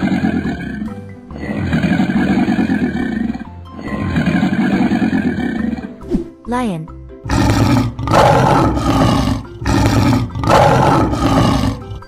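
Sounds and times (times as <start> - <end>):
low rough growl: 0.0 - 5.9, 7.3 - 12.0
children's background music: 0.0 - 12.0.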